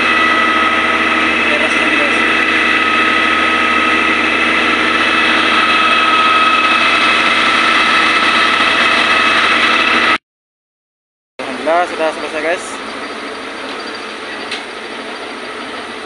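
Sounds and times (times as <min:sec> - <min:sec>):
constant high whine: 0:00.0 - 0:10.2, 0:11.4 - 0:16.0
diesel engine running under load: 0:00.0 - 0:10.2, 0:11.4 - 0:16.0.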